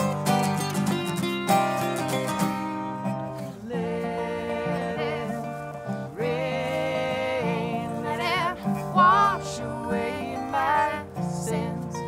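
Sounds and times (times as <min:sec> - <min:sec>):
held wavering melody notes: 0:00.0 - 0:12.0
strummed acoustic guitars: 0:00.0 - 0:12.0.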